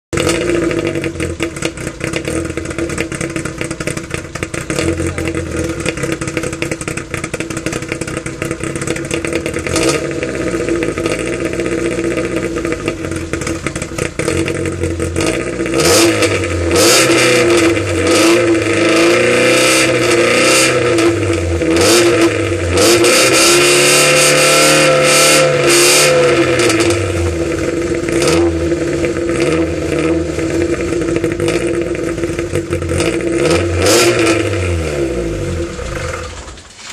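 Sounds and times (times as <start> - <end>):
car engine revving: 0.1 - 36.9.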